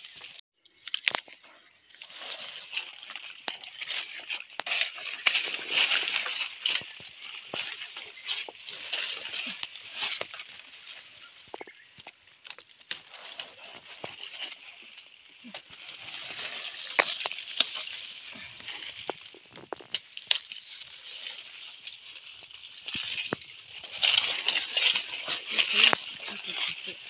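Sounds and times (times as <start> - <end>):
twigs crackling and snapping: 0.0 - 27.0
leafy branches rustling: 1.0 - 27.0.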